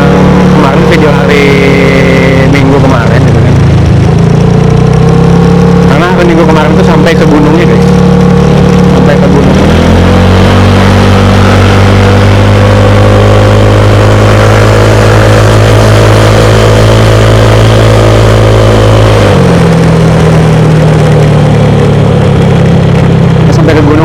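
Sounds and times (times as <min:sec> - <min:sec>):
vehicle engine running loud: 0:00.0 - 0:24.0.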